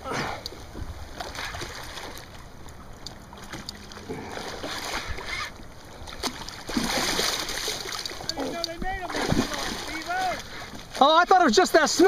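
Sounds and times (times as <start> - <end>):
water lapping around kayak: 0.0 - 12.0
fish thrashing splashes: 0.1 - 11.0.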